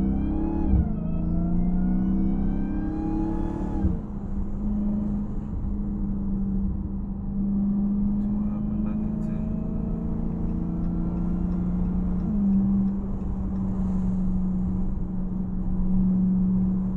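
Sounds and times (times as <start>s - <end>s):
car engine accelerating hard: 0.0s - 16.9s.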